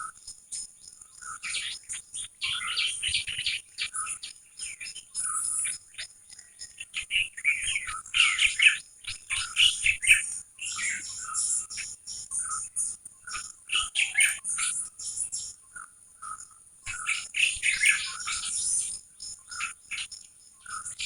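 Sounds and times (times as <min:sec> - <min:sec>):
small birds chirping: 0:00.0 - 0:21.0
steady high-pitched hiss: 0:00.1 - 0:21.0.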